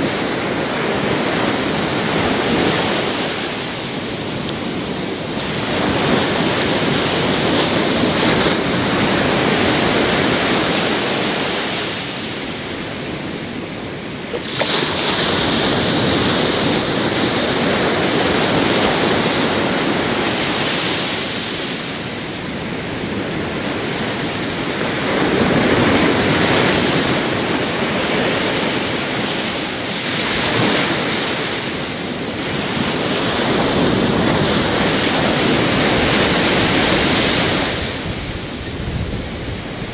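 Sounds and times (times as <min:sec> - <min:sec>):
surf waves breaking on beach: 0:00.0 - 0:39.9.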